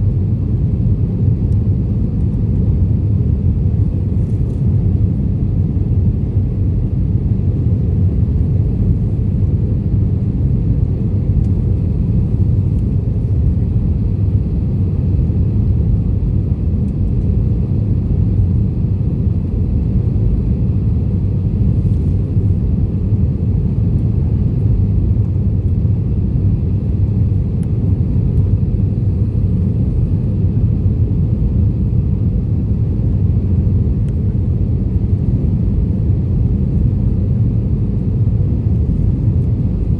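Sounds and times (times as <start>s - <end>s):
airliner low rumble: 0.0s - 39.9s.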